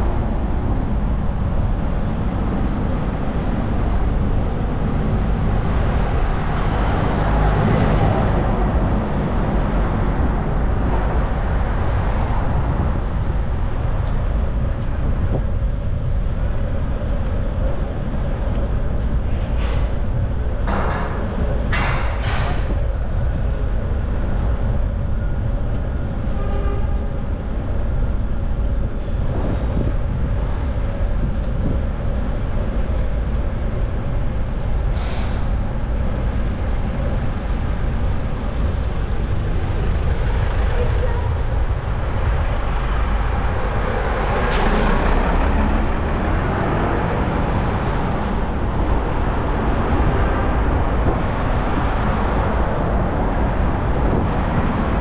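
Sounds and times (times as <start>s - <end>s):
city traffic: 0.0s - 55.0s
wind on microphone: 0.0s - 55.0s.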